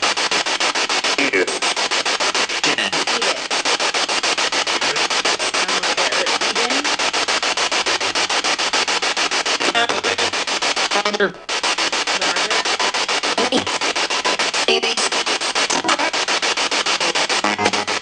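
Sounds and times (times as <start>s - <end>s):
pulsing radio static: 0.0s - 18.0s
snatches of radio broadcast: 0.0s - 18.0s.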